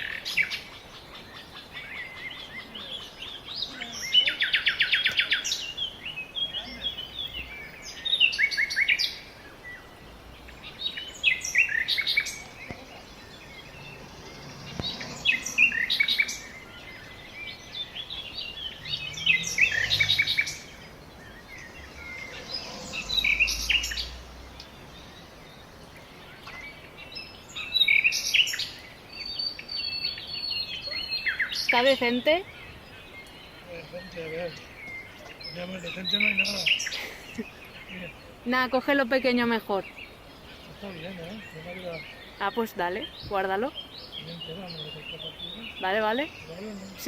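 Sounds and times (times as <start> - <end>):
faint outdoor background noise: 0.0 - 47.0
songbird chirping: 0.0 - 47.0.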